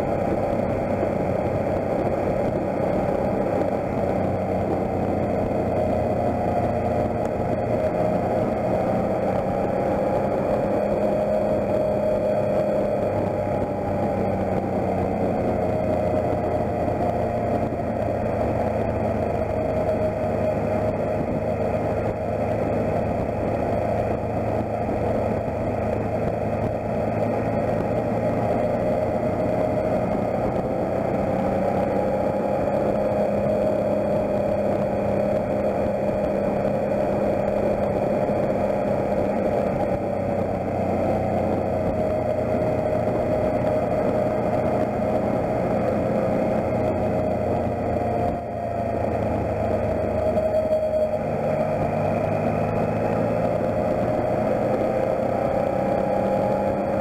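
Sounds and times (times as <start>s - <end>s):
motorcycle engine running: 0.0s - 57.0s
riding wind noise: 0.0s - 57.0s.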